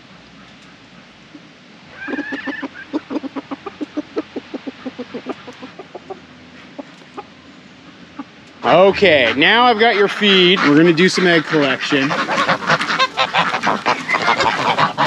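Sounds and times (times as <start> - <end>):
rooster clucking: 1.3 - 15.0.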